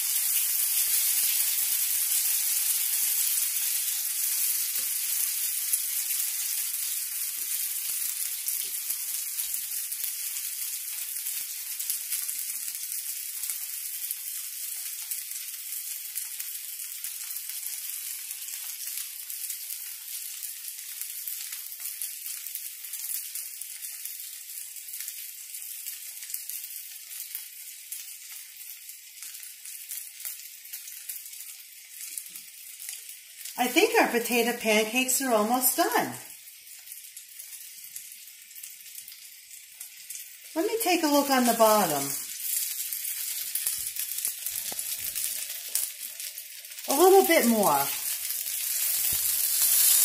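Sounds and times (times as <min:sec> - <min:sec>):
pancakes sizzling in a frying pan: 0:00.0 - 0:50.0.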